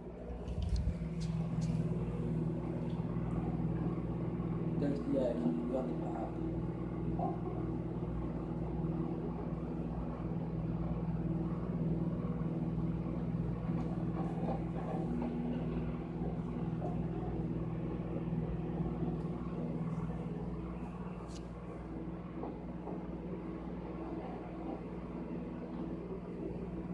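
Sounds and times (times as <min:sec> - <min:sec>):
microwave oven humming: 0:00.0 - 0:26.9.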